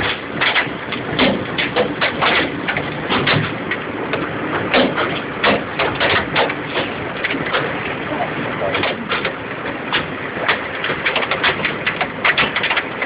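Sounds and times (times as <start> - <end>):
hailstones knocking: 0.0 - 13.0
hailstones pouring down: 0.0 - 13.0.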